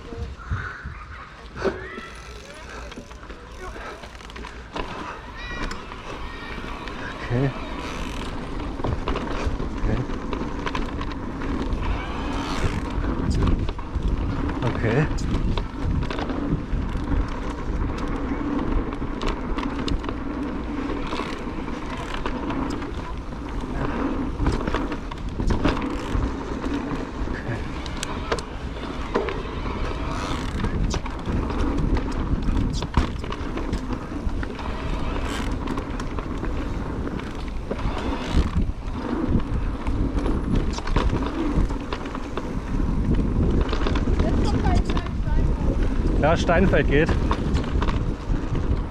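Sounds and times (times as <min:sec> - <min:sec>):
bike tyres rolling on dirt: 0:00.0 - 0:48.9
bike knocks and clicks over bumps: 0:01.8 - 0:48.9.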